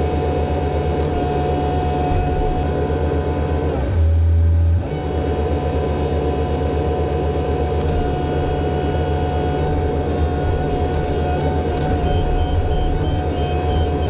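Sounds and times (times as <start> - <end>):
excavator engine and hydraulic whine: 0.0 - 14.0.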